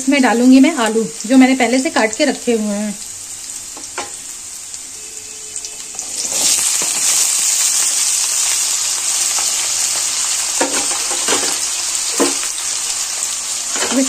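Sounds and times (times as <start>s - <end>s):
potatoes sizzling in hot oil: 0.0s - 14.0s.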